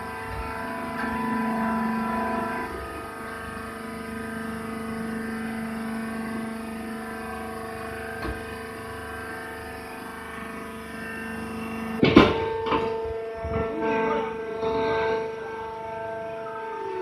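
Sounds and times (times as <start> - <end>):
hydraulic pump motor humming: 0.0 - 17.0.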